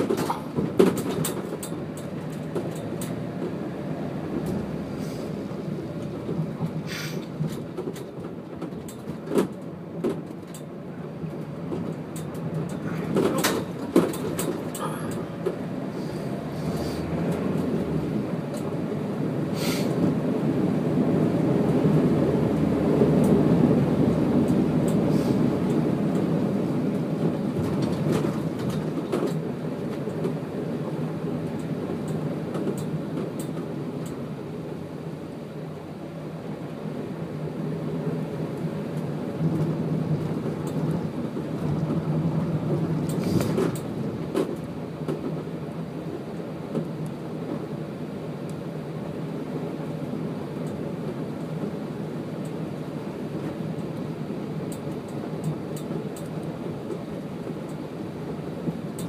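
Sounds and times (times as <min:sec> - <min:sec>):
wheels rolling through floodwater: 0:00.0 - 0:59.0.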